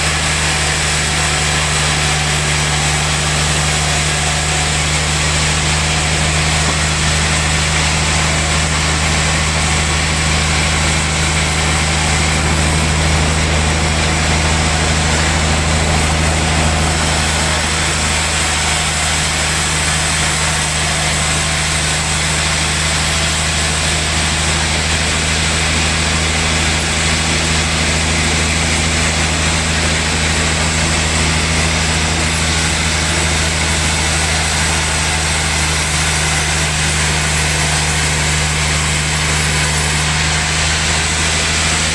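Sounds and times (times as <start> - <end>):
hiss: 0.0 - 41.9
sawmill machinery humming: 0.0 - 41.9.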